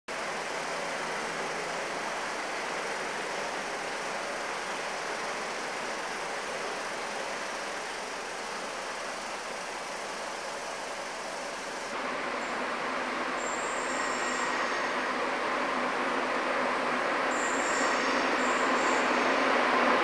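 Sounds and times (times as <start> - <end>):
distant diesel train running: 0.1 - 20.0.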